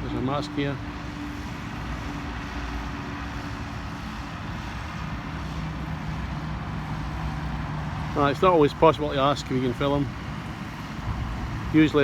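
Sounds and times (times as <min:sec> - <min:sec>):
low engine hum: 0:00.0 - 0:12.0
traffic noise: 0:00.0 - 0:12.0.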